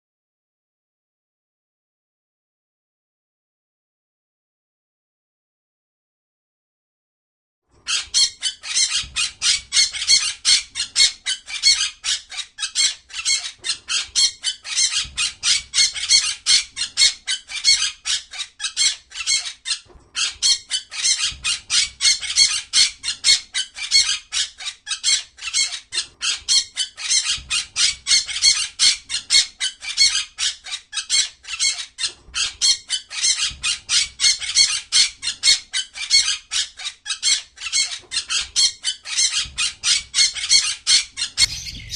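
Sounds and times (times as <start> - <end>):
small birds chirping: 7.8 - 41.9.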